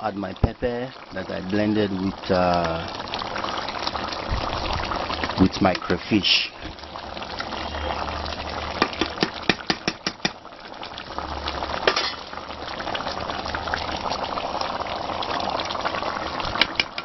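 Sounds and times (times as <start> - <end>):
soup bubbling in a metal pot: 0.0 - 17.0.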